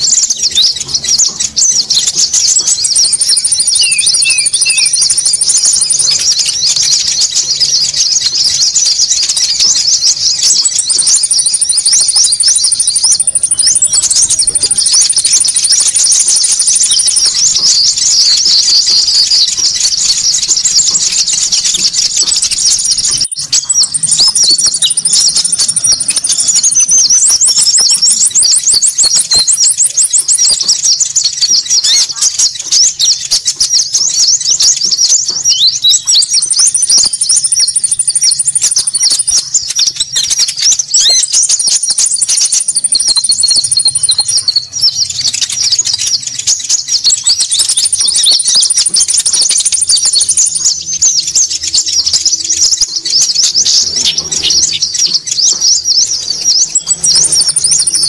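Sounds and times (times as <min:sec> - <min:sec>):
buzzy bird trill: 0:00.0 - 0:58.0
small birds twittering and chattering: 0:00.0 - 0:58.0.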